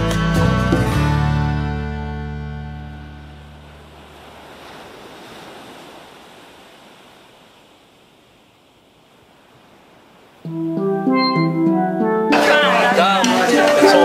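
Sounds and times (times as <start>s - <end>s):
ocean surf washing in: 2.7s - 14.0s.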